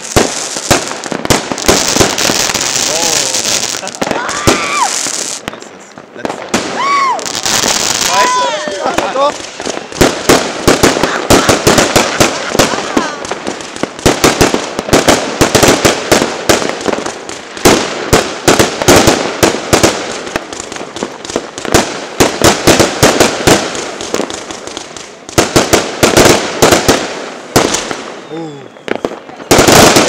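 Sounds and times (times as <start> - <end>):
fireworks banging and crackling: 0.0 - 30.0.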